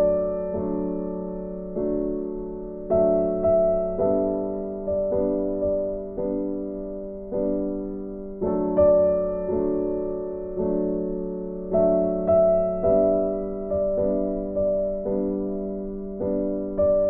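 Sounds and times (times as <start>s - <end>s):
gentle piano chords: 0.0s - 17.0s.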